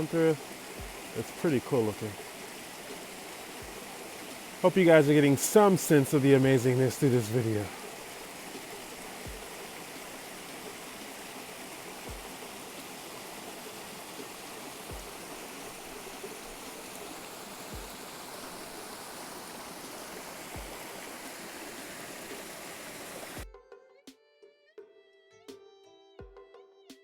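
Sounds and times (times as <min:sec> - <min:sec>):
river water rushing: 0:00.0 - 0:23.4.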